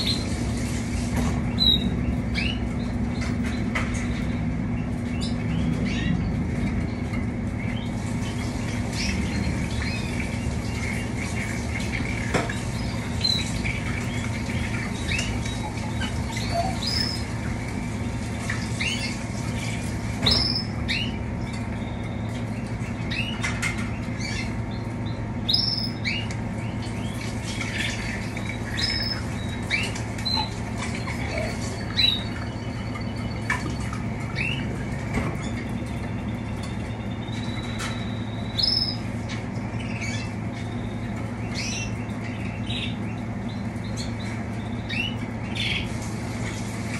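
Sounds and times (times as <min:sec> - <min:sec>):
canaries chirping: 0:00.0 - 0:46.9
steady low hum: 0:00.0 - 0:46.9.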